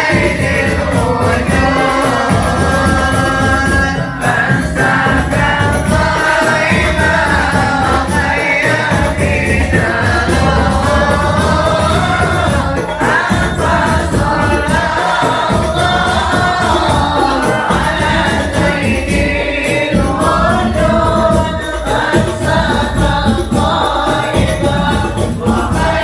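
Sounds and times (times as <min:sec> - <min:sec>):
group singing devotional song: 0:00.0 - 0:26.0
musical accompaniment: 0:00.0 - 0:26.0.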